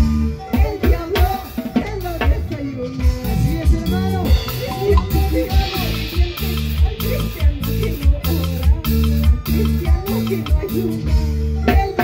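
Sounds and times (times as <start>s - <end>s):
drum kit steady beat: 0.0s - 12.0s
electric bass: 0.0s - 12.0s.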